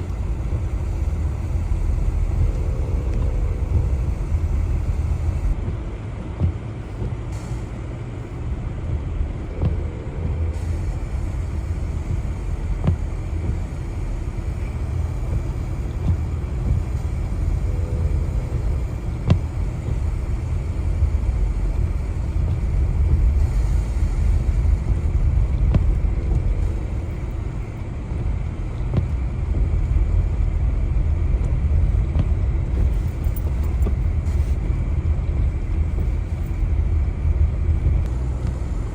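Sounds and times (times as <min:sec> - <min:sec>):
vehicle road and engine rumble: 0:00.0 - 0:38.9.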